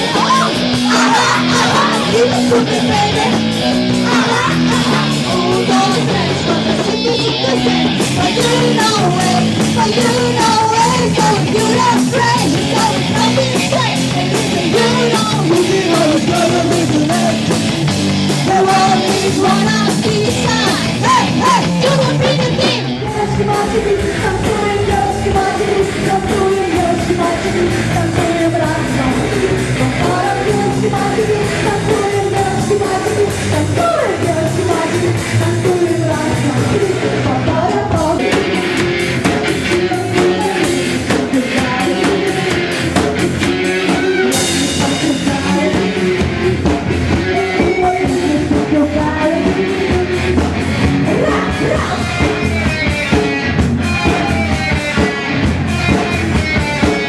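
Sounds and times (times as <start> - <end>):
person singing: 0.0 - 17.7, 18.3 - 38.8, 39.4 - 52.5
loud punk rock band: 0.0 - 57.0
steady drum beat: 0.0 - 57.0.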